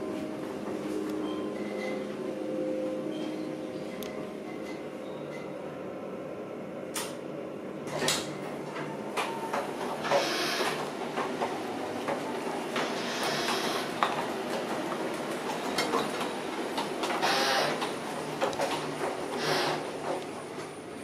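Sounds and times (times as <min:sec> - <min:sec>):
elevator doors sliding: 0:00.0 - 0:06.2, 0:06.8 - 0:21.0.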